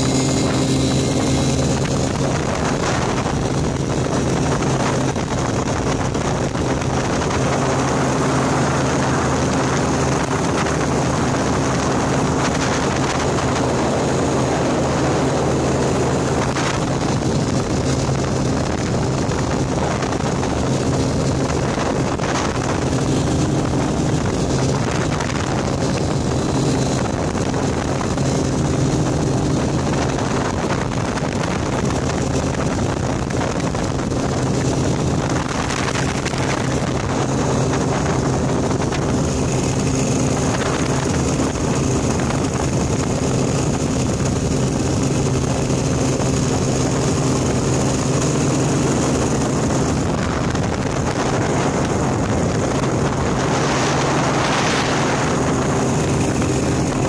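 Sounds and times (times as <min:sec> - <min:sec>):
aircraft engine drone: 0:00.0 - 0:57.0
wind on microphone: 0:00.0 - 0:57.0.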